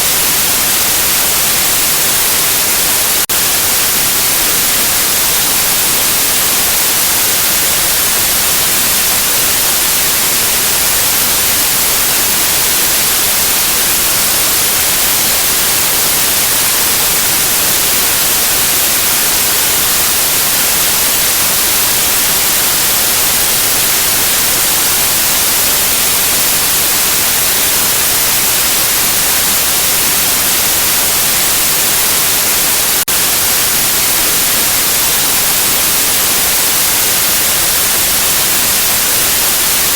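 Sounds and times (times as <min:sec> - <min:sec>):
electronic white noise static: 0:00.0 - 0:39.9.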